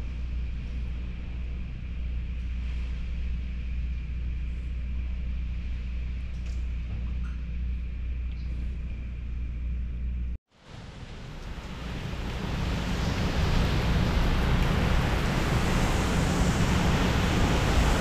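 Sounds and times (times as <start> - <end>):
wind and rain through window: 0.0 - 18.0.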